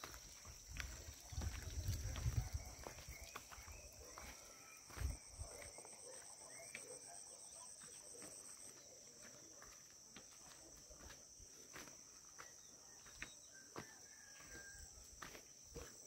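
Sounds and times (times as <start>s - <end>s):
footsteps on stone path: 0.0s - 6.9s, 7.7s - 16.0s
insects trilling: 0.0s - 16.0s.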